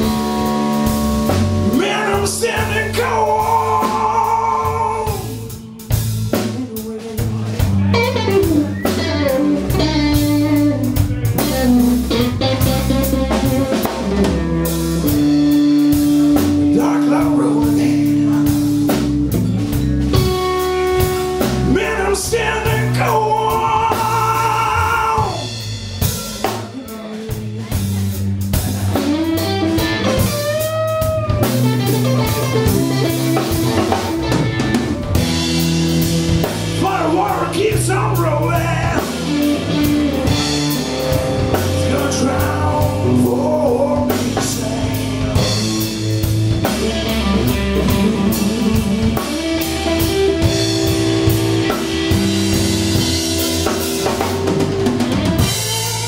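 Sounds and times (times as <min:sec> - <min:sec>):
electric guitar bent notes: 0:00.0 - 0:56.0
slow blues band playing: 0:00.0 - 0:56.0.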